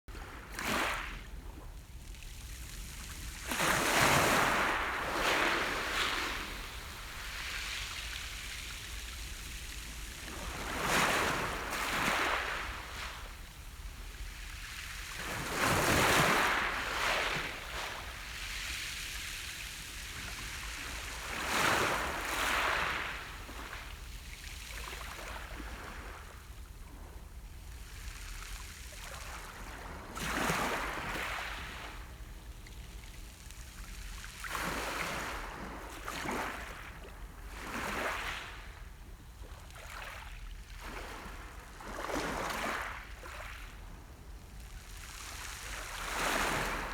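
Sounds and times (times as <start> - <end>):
waves breaking on shore: 0.2 - 33.0, 40.8 - 46.9.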